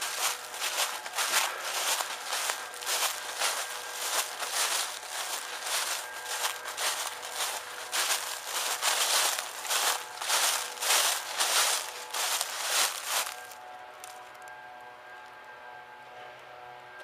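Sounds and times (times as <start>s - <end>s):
footsteps in dry leaves: 0.0s - 14.4s.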